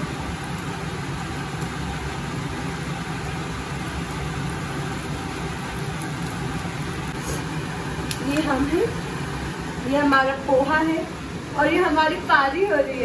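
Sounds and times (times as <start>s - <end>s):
peanuts sizzling in oil: 0.0s - 11.0s
low mechanical hum: 0.0s - 13.0s.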